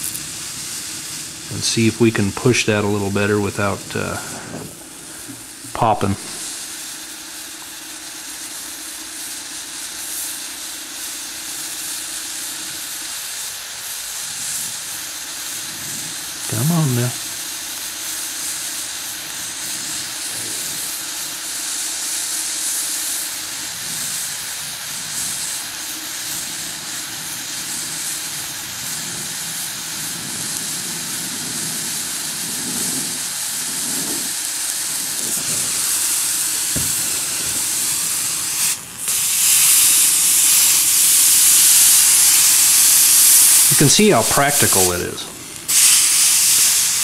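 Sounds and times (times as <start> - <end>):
hot metal sizzling and steaming: 0.0 - 47.0
welding torch flame hissing: 0.0 - 47.0.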